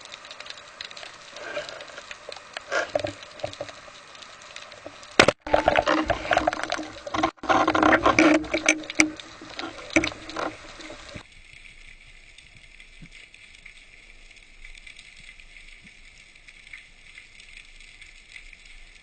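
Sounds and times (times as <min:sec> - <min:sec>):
faint steady hiss: 0:00.0 - 0:19.0
underwater crackling and clicking: 0:00.0 - 0:19.0.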